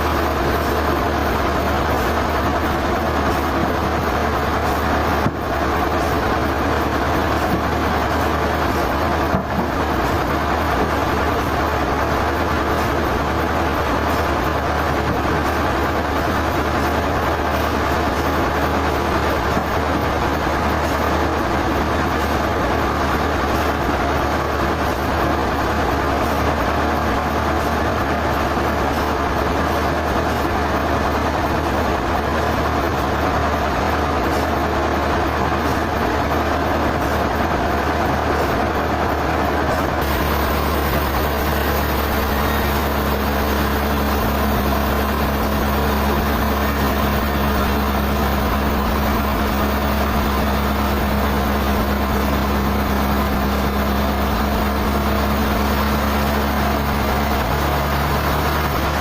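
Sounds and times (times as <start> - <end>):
low engine hum: 0.0 - 59.0
sawmill machinery running: 0.0 - 59.0.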